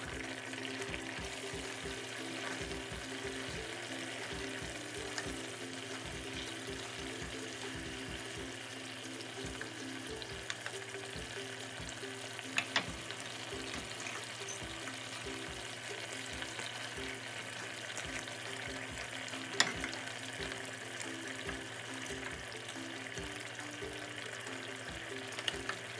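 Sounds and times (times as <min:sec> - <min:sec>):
curry sizzling in a frying pan: 0:00.0 - 0:25.9
quiet background music: 0:00.0 - 0:25.9.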